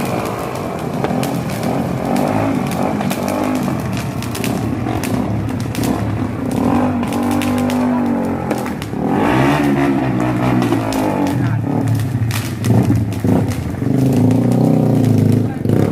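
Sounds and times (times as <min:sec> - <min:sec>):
engine revving: 0:00.0 - 0:15.9
sharp pops or clicks: 0:00.0 - 0:15.9.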